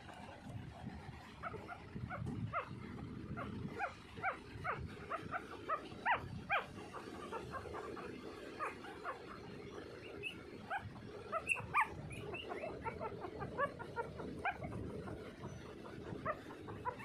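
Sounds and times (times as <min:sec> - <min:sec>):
puppies squeaking and whimpering: 0:01.4 - 0:17.0.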